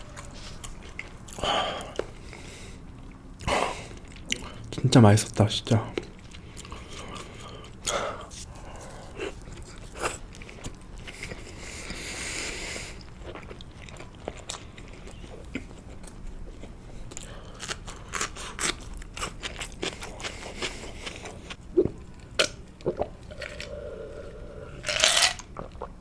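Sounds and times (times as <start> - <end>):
chewing food: 0.0 - 4.8, 5.8 - 26.0.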